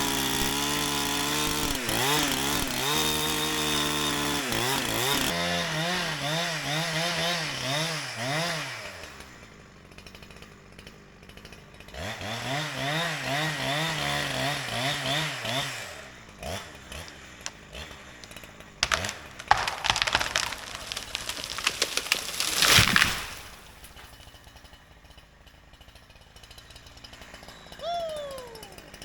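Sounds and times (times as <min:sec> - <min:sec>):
chainsaw revving and idling: 0:00.0 - 0:29.0.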